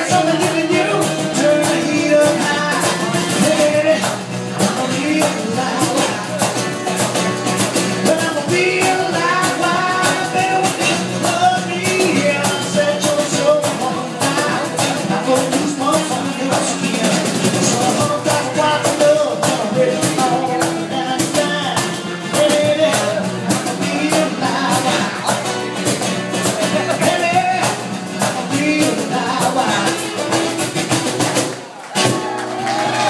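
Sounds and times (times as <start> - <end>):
man singing: 0.0 - 31.2
cajon beat: 0.0 - 33.0
strummed acoustic guitar: 0.0 - 33.0.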